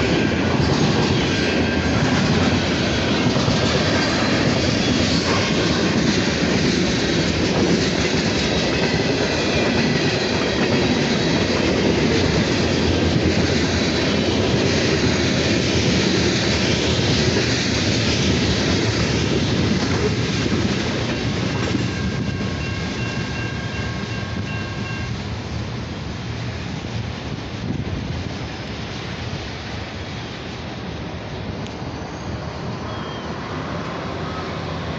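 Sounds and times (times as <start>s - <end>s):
freight train rolling past: 0.0s - 34.9s.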